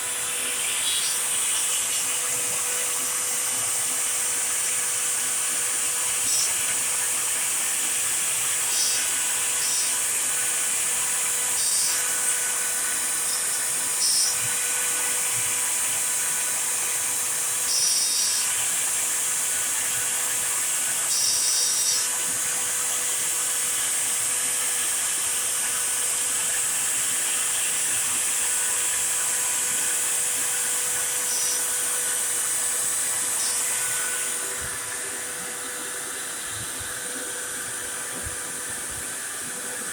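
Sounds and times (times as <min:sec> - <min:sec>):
cnc router spindle carving wood: 0:00.0 - 0:39.9
shop vacuum running: 0:00.0 - 0:39.9.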